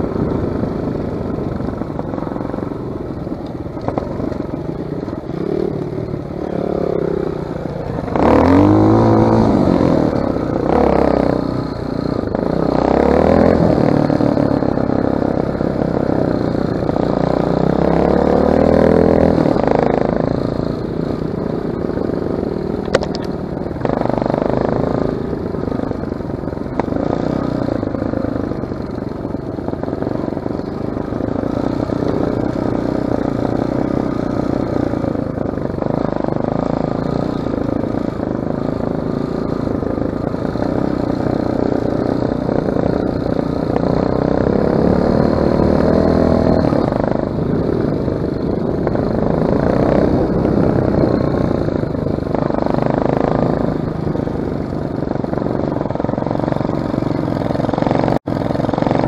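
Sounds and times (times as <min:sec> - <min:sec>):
clatter over rough ground: 0:00.0 - 0:21.2, 0:21.8 - 0:59.0
off-road motorcycle engine: 0:00.0 - 0:59.0.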